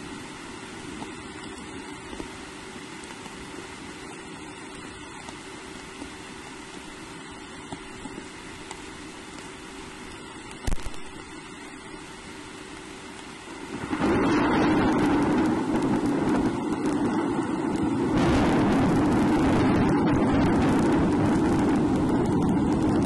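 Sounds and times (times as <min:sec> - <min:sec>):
faint steady hum: 0:00.0 - 0:23.0
rain hissing: 0:00.0 - 0:23.0.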